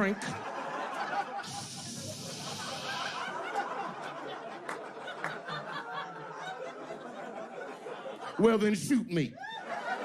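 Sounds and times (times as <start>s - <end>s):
audience laughing: 0.0s - 8.7s, 9.4s - 10.0s.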